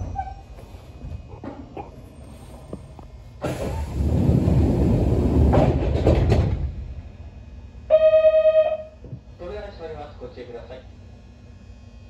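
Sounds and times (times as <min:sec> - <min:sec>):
loud rush of train noise: 0:00.0 - 0:10.6
train rumble: 0:00.0 - 0:11.4.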